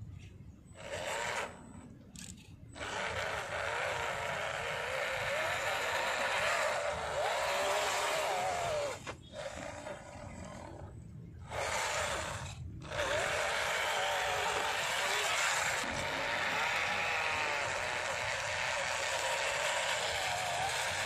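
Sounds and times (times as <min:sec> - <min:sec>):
tyres on dirt: 0:00.2 - 0:21.0
electric motor whining: 0:00.8 - 0:21.0.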